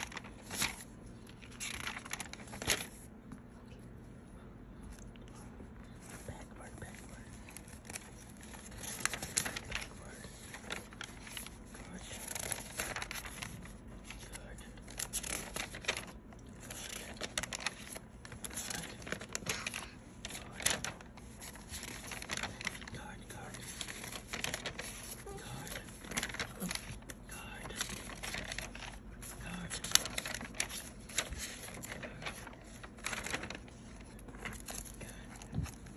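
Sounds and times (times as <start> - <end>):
sharp paper crackles: 0.0 - 3.1, 4.9 - 35.9
notebook paper rustling: 0.0 - 3.5, 4.9 - 35.9.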